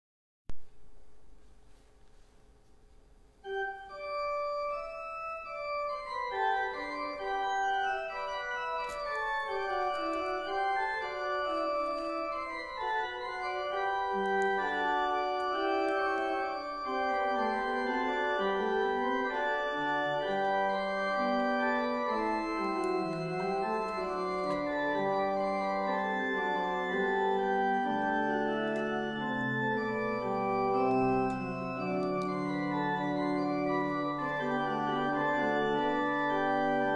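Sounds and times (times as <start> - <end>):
organ playing sustained chords: 3.4 - 36.9.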